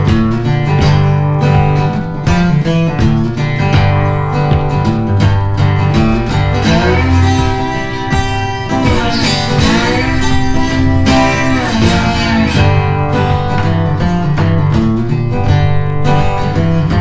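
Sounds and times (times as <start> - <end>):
strummed guitar music: 0.0 - 17.0.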